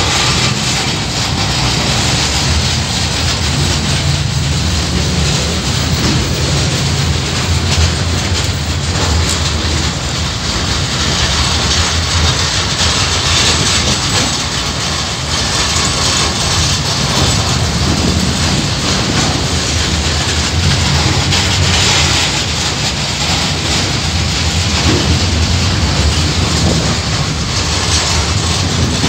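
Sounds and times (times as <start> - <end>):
steel train wheels on rails: 0.0 - 29.0.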